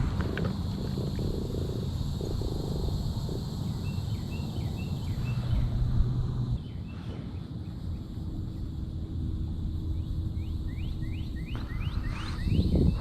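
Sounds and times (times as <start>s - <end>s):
low rumbling noise: 0.0s - 13.0s
bird chirping: 1.1s - 5.9s, 6.5s - 8.9s, 9.5s - 13.0s.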